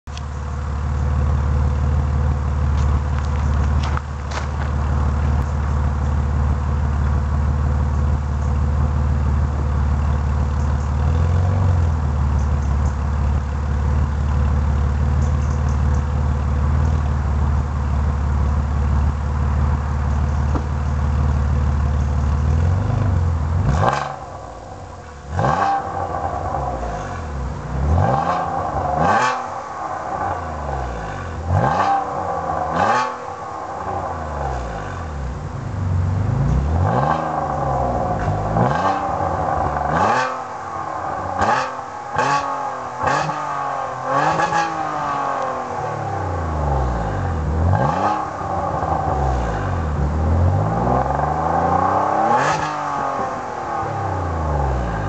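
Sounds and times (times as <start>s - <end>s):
car engine idling: 0.0s - 55.0s
engine revving: 8.9s - 55.0s.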